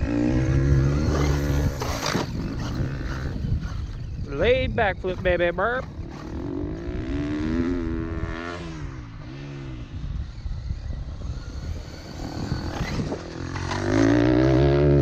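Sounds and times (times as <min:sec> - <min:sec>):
motor revving: 0:00.0 - 0:05.3, 0:05.9 - 0:15.0.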